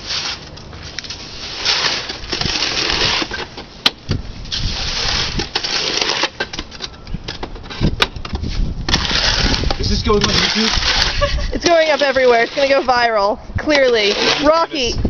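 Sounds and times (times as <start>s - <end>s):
shovel scraping wet concrete: 0.0s - 3.8s, 4.5s - 6.8s, 7.7s - 15.0s.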